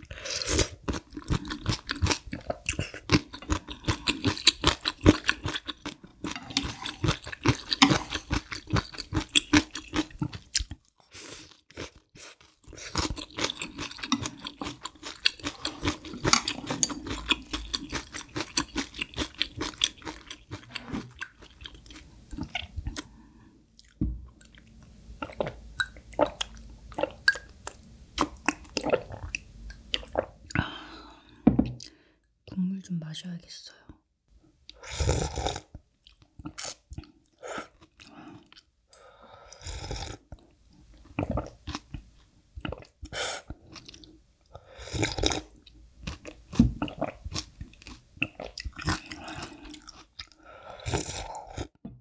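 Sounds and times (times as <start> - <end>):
chewing noodle soup: 0.0 - 30.7, 34.7 - 38.7, 39.5 - 51.8.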